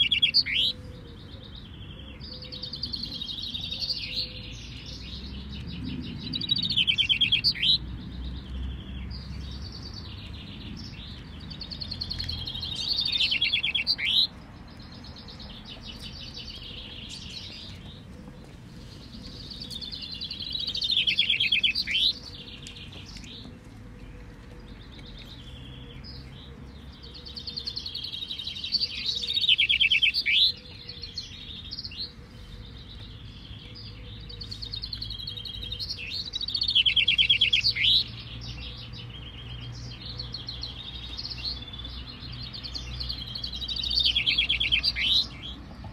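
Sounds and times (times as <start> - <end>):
finch singing trilled song: 0.0 - 18.1, 18.8 - 23.6, 24.6 - 45.9
softer finch songs: 0.0 - 45.9.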